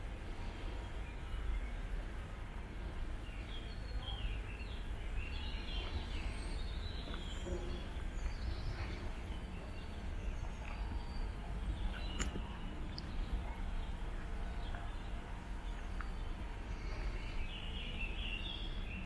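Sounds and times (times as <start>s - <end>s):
low background rumble: 0.0s - 19.0s
small birds chirping: 0.0s - 19.0s.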